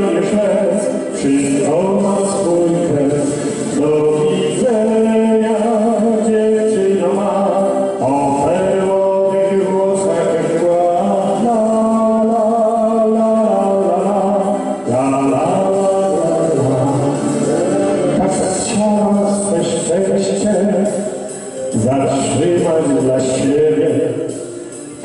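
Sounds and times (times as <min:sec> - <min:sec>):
man singing into a microphone: 0:00.0 - 0:24.5
slow song backing track: 0:00.0 - 0:25.0.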